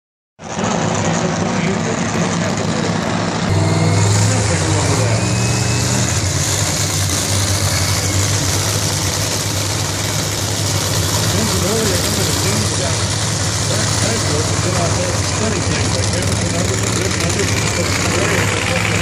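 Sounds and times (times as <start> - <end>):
dragster engine idling: 0.5 - 19.0.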